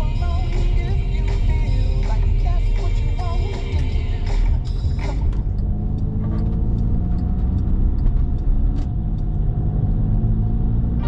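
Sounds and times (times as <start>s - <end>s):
vehicle rumbling in motion: 0.0s - 11.0s.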